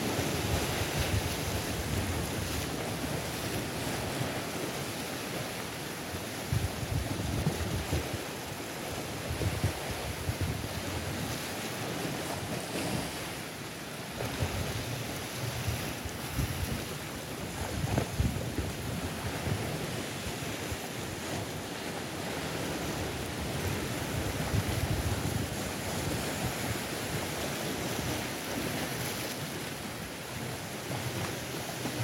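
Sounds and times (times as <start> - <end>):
sea waves breaking on rocks: 0.0 - 32.0.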